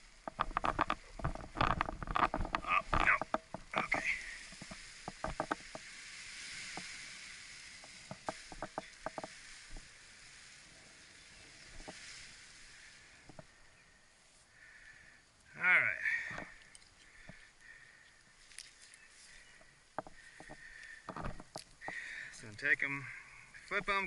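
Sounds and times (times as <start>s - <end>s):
wing fabric rustling in wind: 0.0s - 24.0s.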